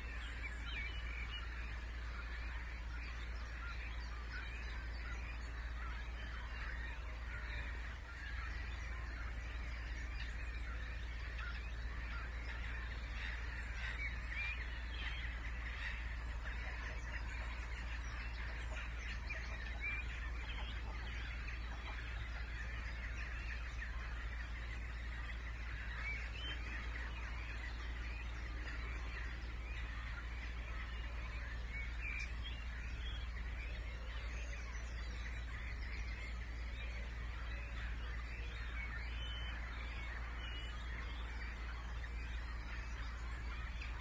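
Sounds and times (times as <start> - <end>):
chorus of birds calling: 0.0 - 44.0.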